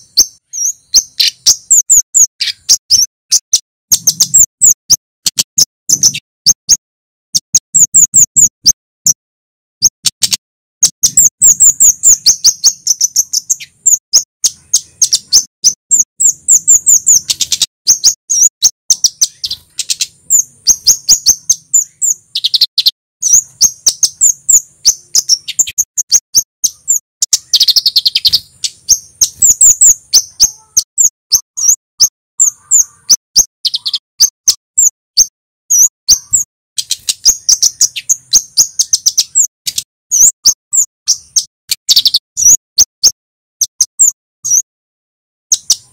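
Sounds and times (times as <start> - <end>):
songbird singing high chirps: 0.0 - 9.2, 9.8 - 44.7, 45.4 - 45.9.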